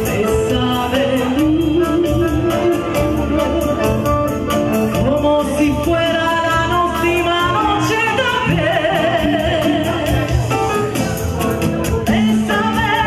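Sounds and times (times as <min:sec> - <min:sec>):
woman singing into microphone: 0:00.0 - 0:10.4, 0:12.0 - 0:13.0
accordion: 0:00.0 - 0:13.0.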